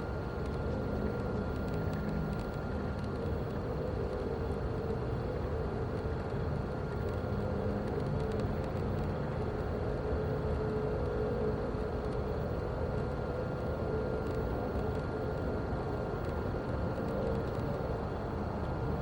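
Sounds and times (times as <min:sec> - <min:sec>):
vehicle rumble with droning hum: 0:00.0 - 0:19.0.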